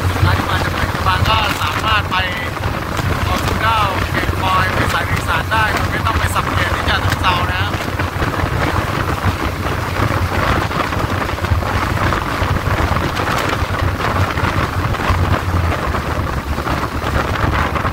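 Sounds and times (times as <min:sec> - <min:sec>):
train carriage rumbling on rails: 0:00.0 - 0:17.9
wind buffeting microphone: 0:00.0 - 0:17.9.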